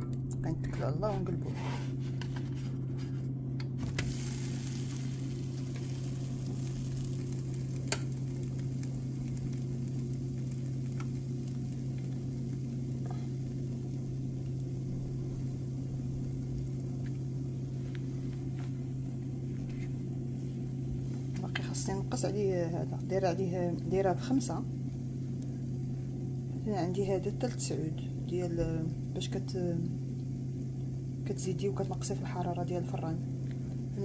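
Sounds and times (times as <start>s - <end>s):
steady low hum: 0.0s - 34.0s
faint pancake sizzle: 0.6s - 34.0s.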